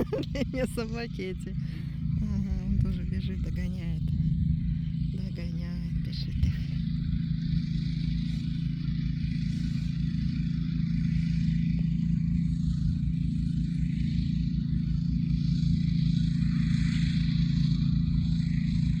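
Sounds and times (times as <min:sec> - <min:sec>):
fluttering low rumble: 0:00.0 - 0:19.0
vehicle engine hum: 0:00.0 - 0:19.0.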